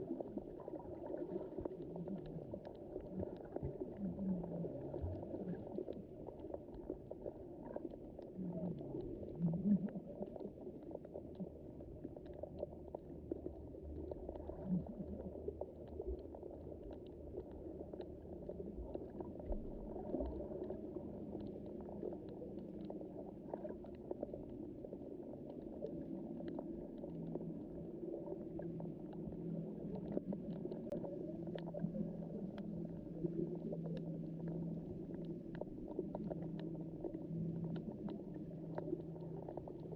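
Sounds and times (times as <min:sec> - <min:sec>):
faint clicks and crackles: 0:00.0 - 0:39.9
muffled underwater water wash: 0:00.0 - 0:39.9.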